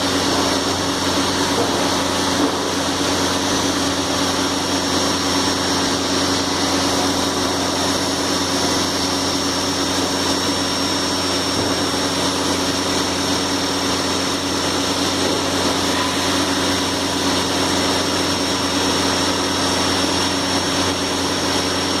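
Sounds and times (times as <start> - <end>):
machine hum with high whine: 0.0 - 22.0.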